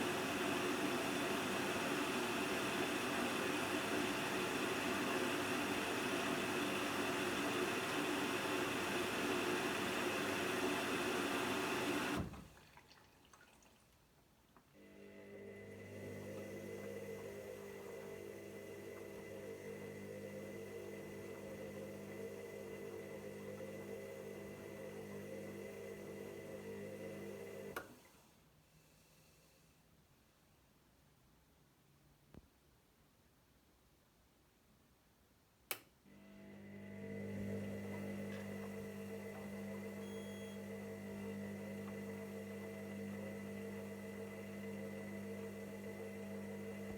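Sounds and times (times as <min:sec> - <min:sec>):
washing machine motor humming: 0:00.0 - 0:13.8, 0:14.8 - 0:27.9, 0:36.1 - 0:46.9.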